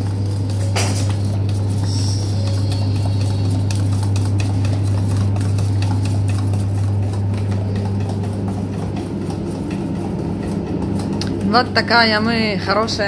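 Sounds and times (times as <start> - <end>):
loud low machine hum: 0.0 - 13.0.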